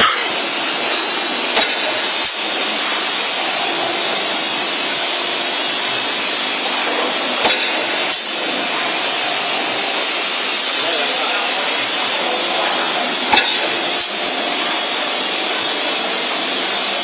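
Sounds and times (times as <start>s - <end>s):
wire bending machine whirring: 0.0s - 17.0s.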